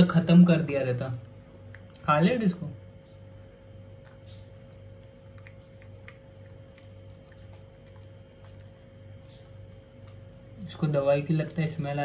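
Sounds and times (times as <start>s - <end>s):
dog licking food: 0.0s - 12.0s
steady low hum: 0.0s - 12.0s.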